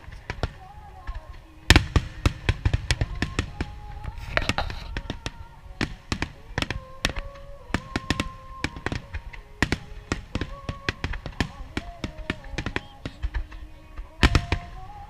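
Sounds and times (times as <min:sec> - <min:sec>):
fireworks bangs and cracks: 0:00.0 - 0:15.0
music with long held notes: 0:00.0 - 0:15.0.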